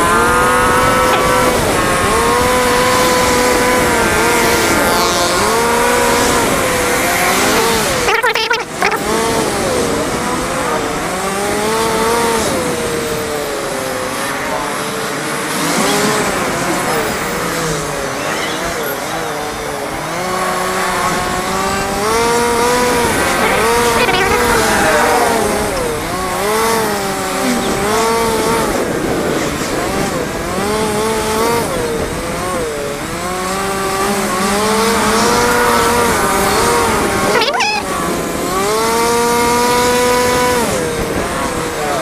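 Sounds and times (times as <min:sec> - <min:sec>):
motorcycle engine accelerating: 0:00.0 - 0:42.0
wind and road noise: 0:00.0 - 0:42.0.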